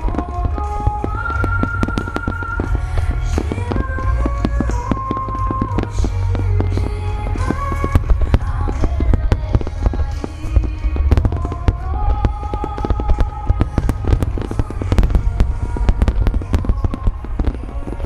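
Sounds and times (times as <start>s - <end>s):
deep rumble: 0.0s - 18.0s
firework shells bursting: 0.0s - 18.0s
music over loudspeakers: 0.0s - 18.0s.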